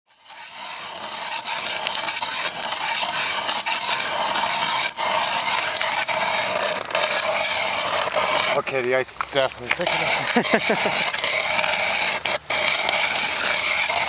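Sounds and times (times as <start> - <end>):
ice auger blades scraping ice: 0.1 - 14.0.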